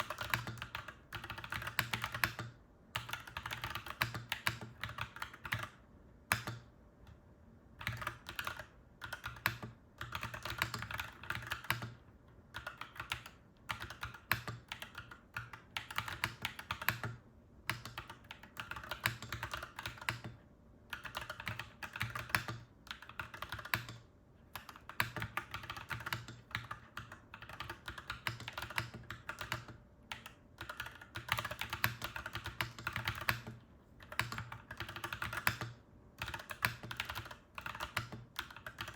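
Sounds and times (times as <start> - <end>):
mechanical keyboard typing: 0.0 - 6.7, 7.8 - 38.9.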